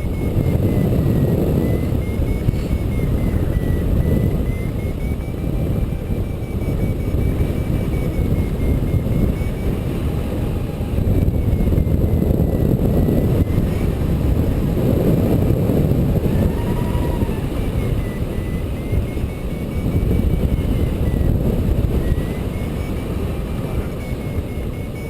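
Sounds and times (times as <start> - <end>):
faint wavering high-pitched tone: 0.0 - 15.6, 16.2 - 25.0
wind buffeting microphone: 0.0 - 25.0.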